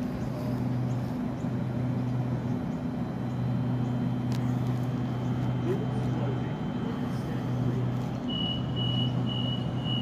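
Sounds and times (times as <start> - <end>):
faint high whine: 0.0 - 10.0
train equipment low hum: 0.0 - 10.0.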